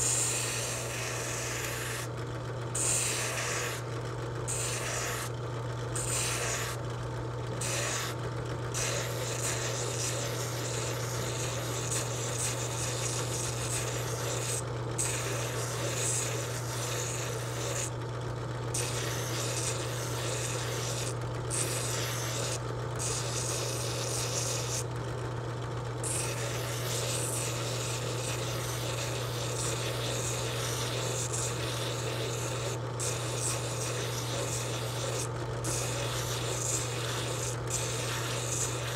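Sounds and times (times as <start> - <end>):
motor hum: 0.0 - 38.9
sanding drum rasping on wood: 2.8 - 3.8, 4.5 - 5.3, 6.0 - 6.8, 7.6 - 8.2, 8.8 - 17.9, 18.8 - 24.8, 26.0 - 38.9.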